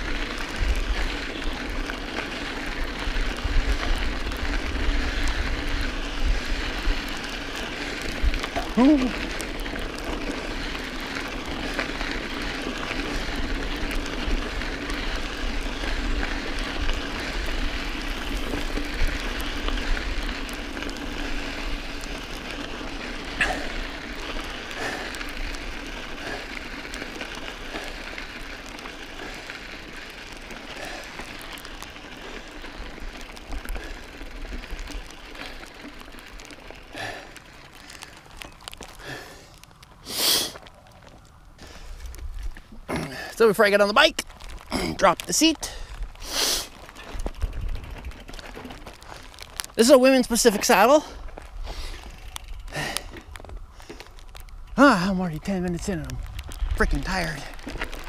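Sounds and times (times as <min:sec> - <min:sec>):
bike clicks and rattles: 0:00.0 - 0:58.0
bike tyres rolling over gravel: 0:00.0 - 0:58.0.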